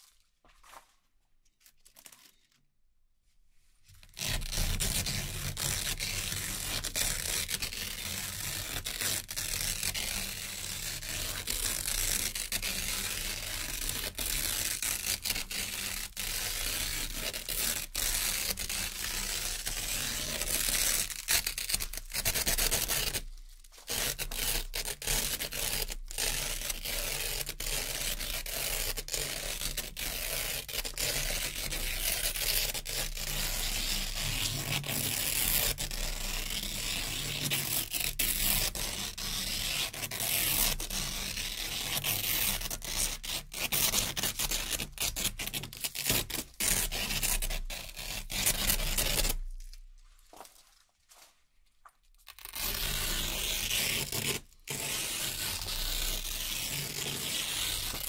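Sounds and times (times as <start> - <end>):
velcro strips ripping apart: 1.6 - 2.6, 4.0 - 51.2, 52.2 - 58.0.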